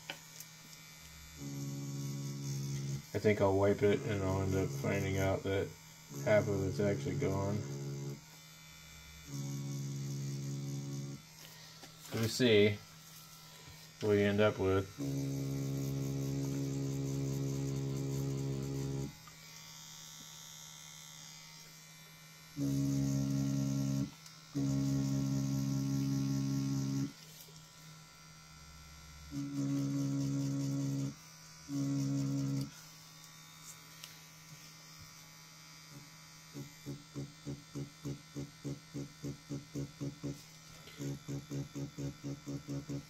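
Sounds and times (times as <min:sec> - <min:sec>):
tattoo machine buzzing: 0:00.0 - 0:43.0.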